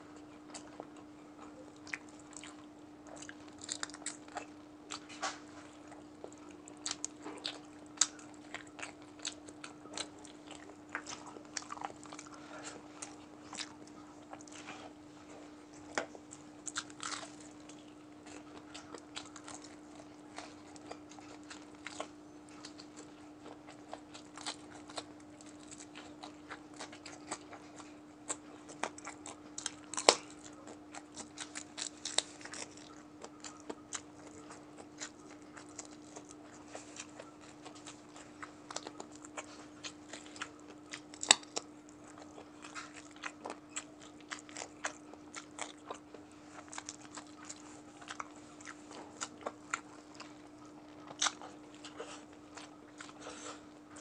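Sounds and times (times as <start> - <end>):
chewing and crunching fried chicken: 0.0 - 54.0
faint steady hum: 0.0 - 54.0.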